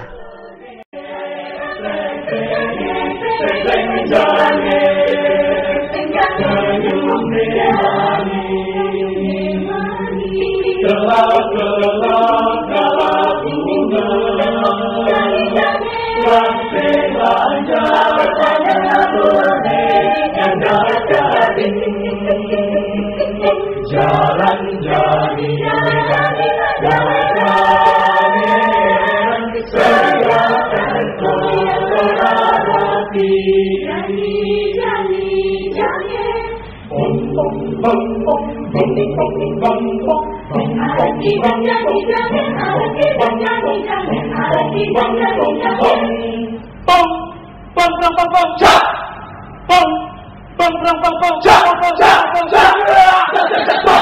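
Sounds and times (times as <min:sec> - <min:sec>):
choir singing held chords: 0:00.0 - 0:54.0.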